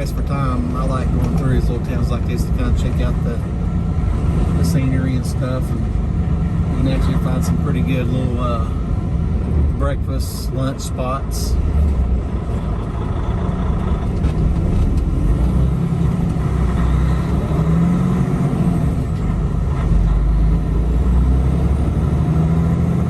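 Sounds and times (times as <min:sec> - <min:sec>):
diesel truck engine droning: 0:00.0 - 0:23.0
road noise: 0:00.0 - 0:23.0.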